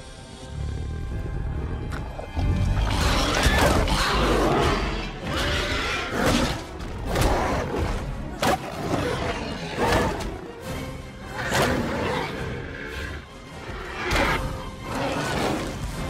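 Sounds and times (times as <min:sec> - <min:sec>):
dramatic orchestral score: 0:00.0 - 0:16.0.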